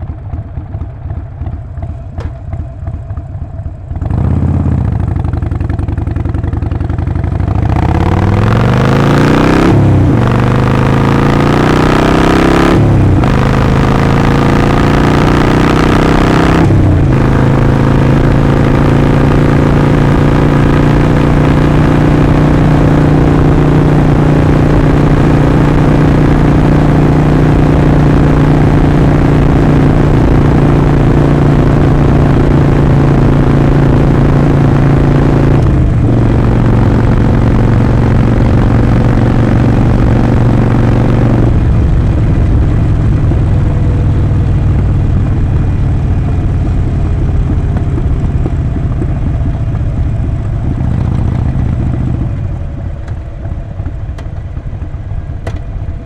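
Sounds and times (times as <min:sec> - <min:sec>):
motorcycle accelerating: 0:00.0 - 0:56.0.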